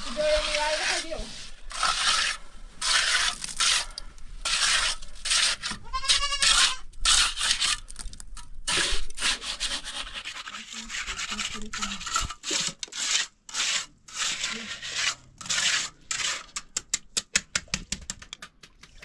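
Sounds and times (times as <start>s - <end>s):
trowel scraping mortar: 0.0s - 17.0s.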